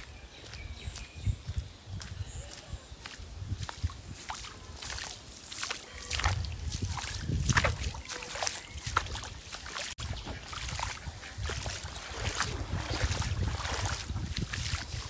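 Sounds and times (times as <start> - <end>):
wind buffeting microphone: 0.0 - 5.3, 6.0 - 15.0.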